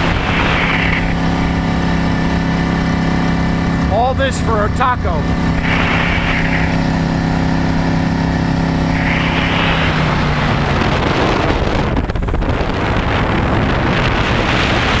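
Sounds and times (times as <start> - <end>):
motorboat engine running: 0.0 - 15.0
water rushing: 0.0 - 15.0
wind on microphone: 0.0 - 15.0.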